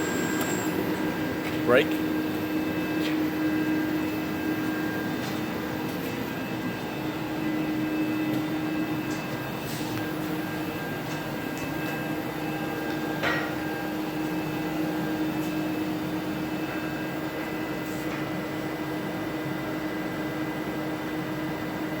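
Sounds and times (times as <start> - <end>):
machine hum: 0.0 - 17.8.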